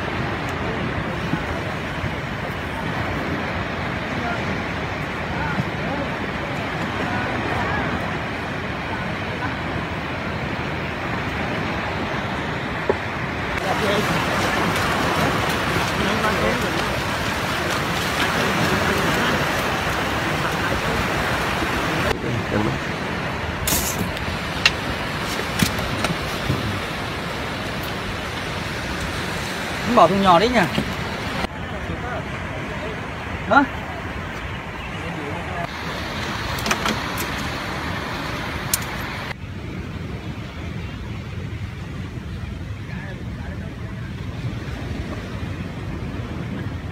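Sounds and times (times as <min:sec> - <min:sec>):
breaking surf: 0:00.0 - 0:46.9
wind: 0:00.0 - 0:46.9.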